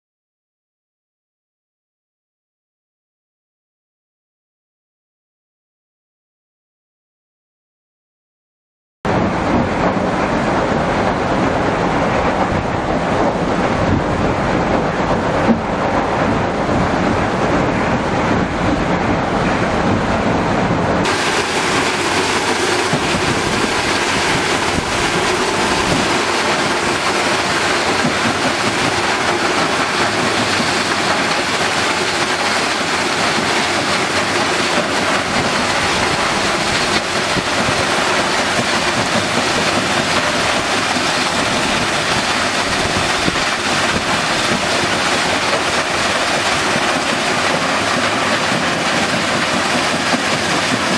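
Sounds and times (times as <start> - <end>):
plant machinery running: 9.1 - 50.9
wash water rushing: 9.1 - 50.9.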